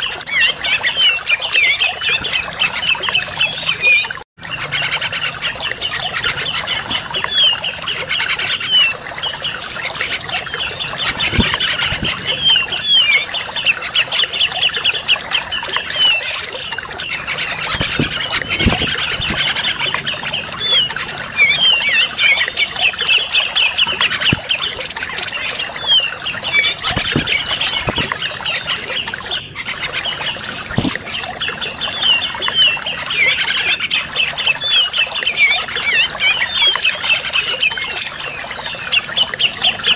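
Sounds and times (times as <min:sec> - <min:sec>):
birds chirping and chattering: 0:00.0 - 0:39.9
running water trickling: 0:00.0 - 0:39.9.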